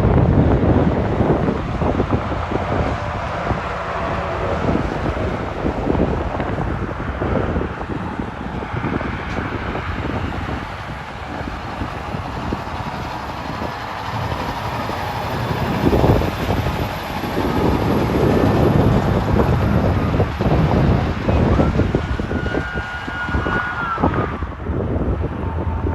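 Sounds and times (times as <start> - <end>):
highway traffic with heavy trucks: 0.0 - 25.9.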